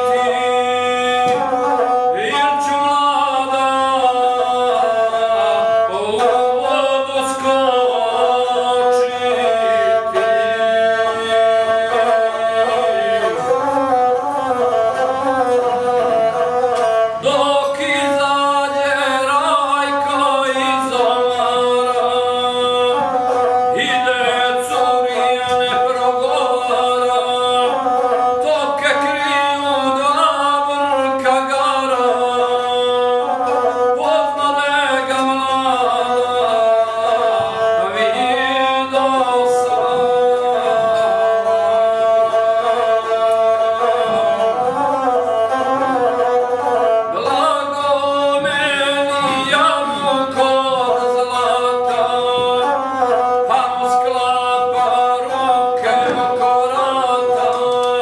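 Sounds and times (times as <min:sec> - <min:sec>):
bowed one-string fiddle: 0:00.0 - 0:58.0
man singing: 0:00.0 - 0:58.0.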